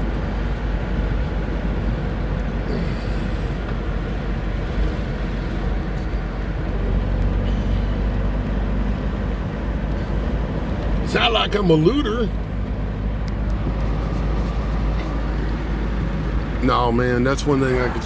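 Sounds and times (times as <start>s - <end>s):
car interior road rumble: 0.0s - 18.0s
faint engine hum: 0.0s - 18.0s.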